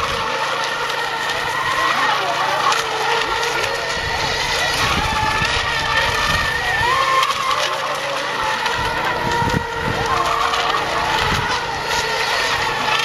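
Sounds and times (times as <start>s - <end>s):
electric boat motors whining: 0.0s - 13.0s.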